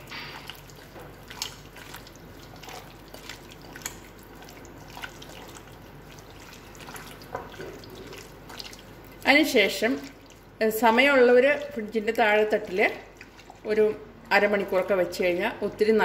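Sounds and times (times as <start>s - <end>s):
hands squishing marinade into prawns: 0.0s - 15.5s.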